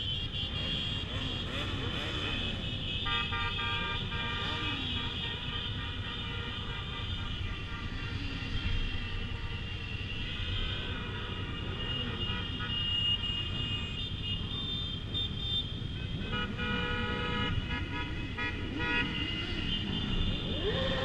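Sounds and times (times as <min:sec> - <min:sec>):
motorcycle engines running: 0:00.0 - 0:21.0
motorcycle horns honking: 0:00.0 - 0:21.0.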